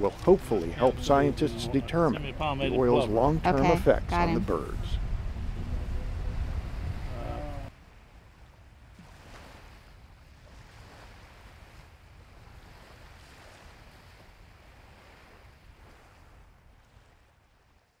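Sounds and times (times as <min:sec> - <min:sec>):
small waves on shore: 0:00.0 - 0:18.0
wind: 0:00.0 - 0:18.0.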